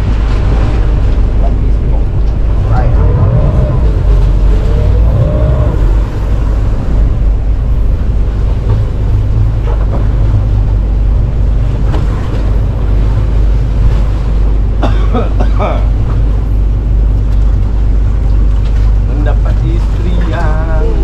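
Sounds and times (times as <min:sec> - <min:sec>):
steady low rumble: 0:00.0 - 0:21.0
water washing: 0:00.0 - 0:21.0
wind buffeting microphone: 0:00.0 - 0:21.0.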